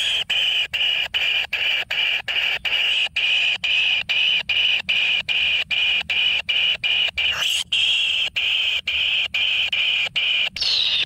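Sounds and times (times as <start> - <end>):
bird chick rasping begging call: 0.0 - 11.0.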